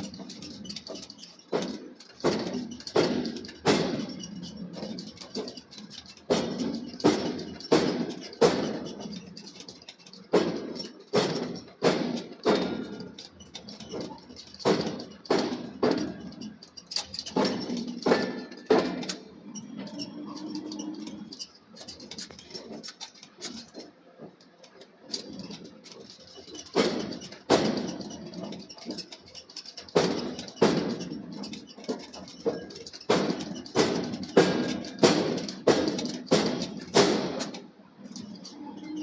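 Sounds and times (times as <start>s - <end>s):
scattered knocks: 0.0s - 23.8s, 24.4s - 37.6s.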